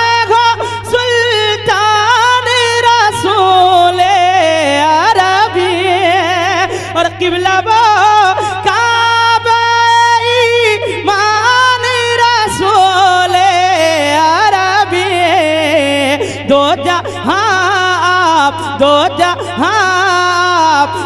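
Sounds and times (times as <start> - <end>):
man singing over loudspeaker: 0.0 - 21.0
steady low hum: 0.0 - 21.0.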